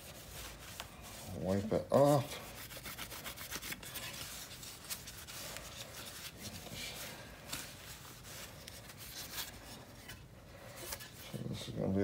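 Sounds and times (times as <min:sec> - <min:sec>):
towel rubbing on trim: 0:00.0 - 0:09.9.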